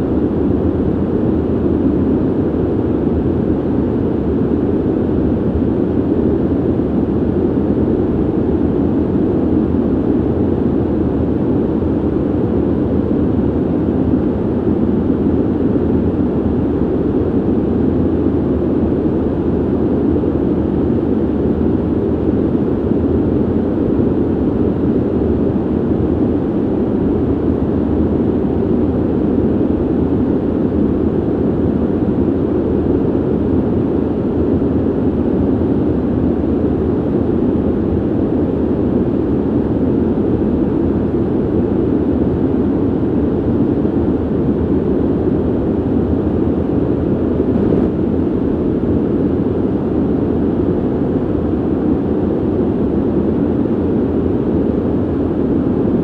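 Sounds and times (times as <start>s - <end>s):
ventilation air rush: 0.0s - 56.0s.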